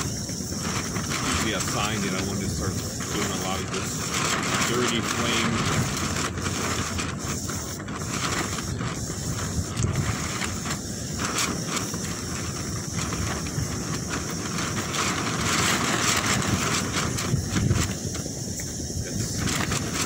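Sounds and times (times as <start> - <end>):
strong wind gusting: 0.0 - 20.0
wind buffeting microphone: 0.0 - 20.0.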